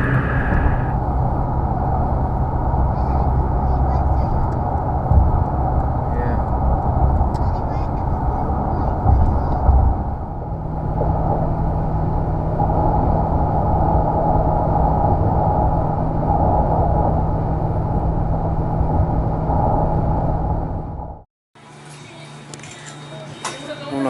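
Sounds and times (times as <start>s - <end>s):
car road and engine rumble: 0.0s - 21.2s
low hum: 0.0s - 21.3s.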